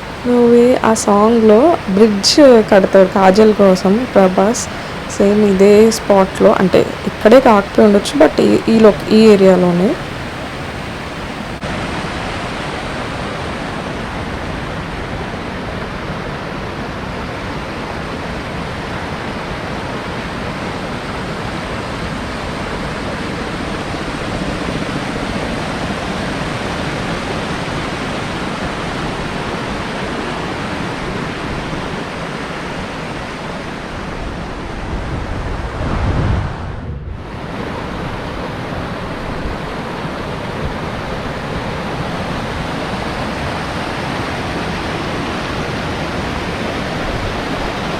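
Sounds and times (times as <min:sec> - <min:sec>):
fast-flowing water rushing: 0:00.0 - 0:36.6, 0:37.2 - 0:47.9.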